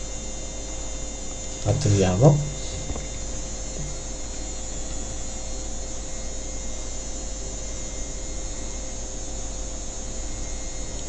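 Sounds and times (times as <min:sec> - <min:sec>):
background hum and hiss: 0:00.0 - 0:11.0
faint constant tone: 0:00.0 - 0:11.0.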